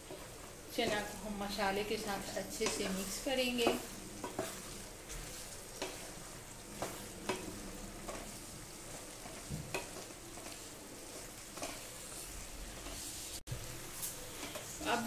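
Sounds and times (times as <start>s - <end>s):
soft sizzle: 0.0s - 15.0s
spatula scraping a pan: 0.0s - 15.0s.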